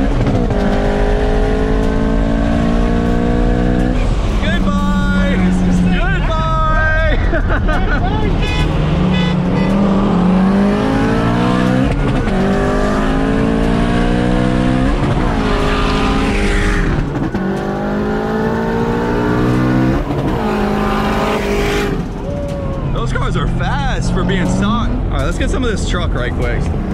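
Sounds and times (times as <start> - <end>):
car engine at full throttle: 0.0 - 26.9.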